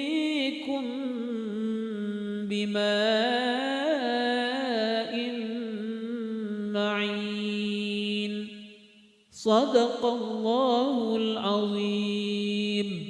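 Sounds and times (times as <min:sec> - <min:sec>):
person reciting melodically: 0:00.0 - 0:08.6, 0:09.3 - 0:13.0.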